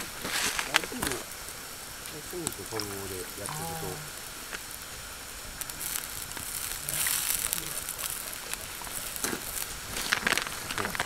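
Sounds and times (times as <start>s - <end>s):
food sizzling and bubbling in wok: 0.0s - 11.0s
wood fire crackling: 0.0s - 11.0s.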